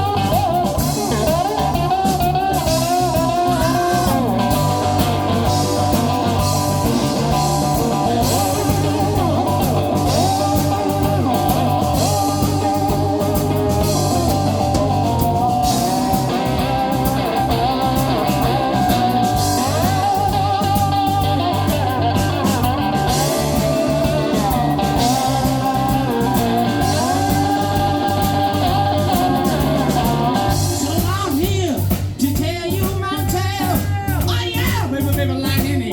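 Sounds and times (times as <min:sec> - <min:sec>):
slide guitar playing blues: 0:00.0 - 0:31.1
steady low backing: 0:00.0 - 0:35.9.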